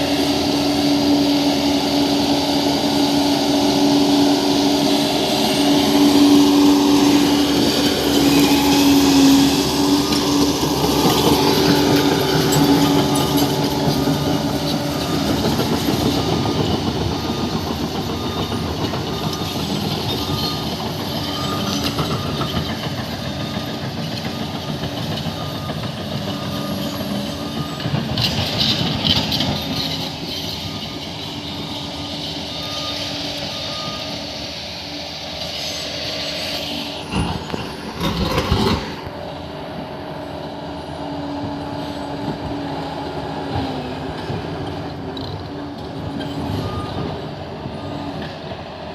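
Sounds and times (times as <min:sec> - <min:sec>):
bulldozer diesel engine running: 0:00.0 - 0:48.9
steel tracks clanking: 0:00.0 - 0:48.9.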